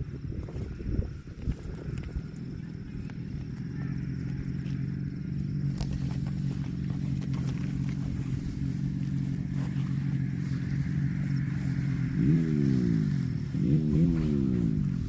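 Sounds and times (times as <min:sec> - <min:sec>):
steady low drone: 0:00.0 - 0:15.0.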